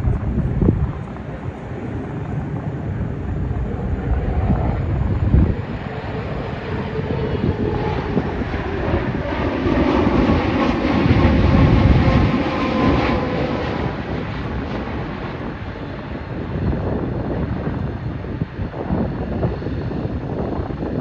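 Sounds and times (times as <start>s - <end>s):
passing plane engine rumble: 0.0s - 21.0s.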